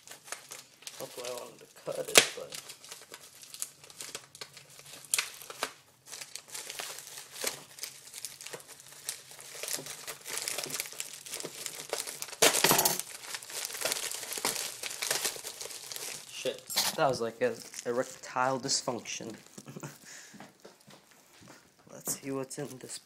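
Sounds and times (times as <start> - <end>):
plastic ripping: 0.0 - 20.1
plastic bag crinkling: 0.0 - 21.1.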